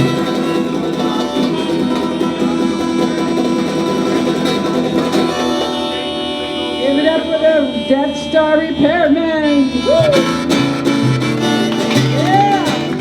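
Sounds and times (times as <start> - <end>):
strummed guitar: 0.0 - 13.0.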